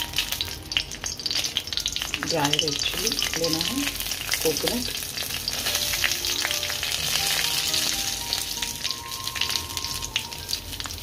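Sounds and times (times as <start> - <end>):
frying in hot oil: 0.0 - 11.0.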